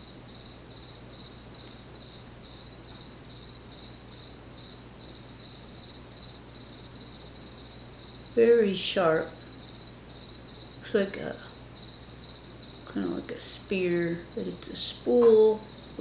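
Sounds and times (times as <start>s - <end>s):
cricket chirping: 0.0s - 16.0s
low electrical hum: 0.0s - 16.0s.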